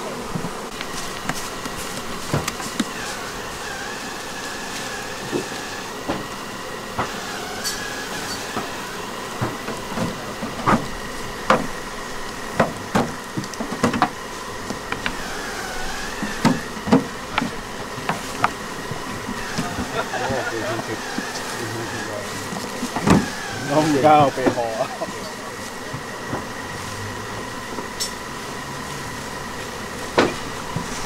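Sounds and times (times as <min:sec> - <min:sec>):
bees humming: 0:00.0 - 0:31.0
wooden frames knocking on hive boxes: 0:00.1 - 0:26.6, 0:29.6 - 0:31.0.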